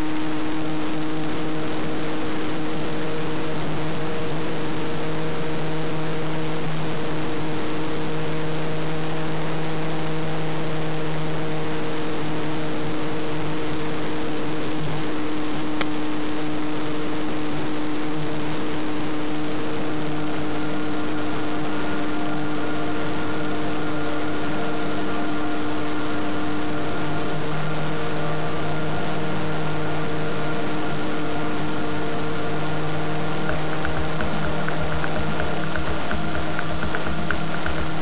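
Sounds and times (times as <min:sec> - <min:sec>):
electric motor and propeller whine: 0:00.0 - 0:38.0.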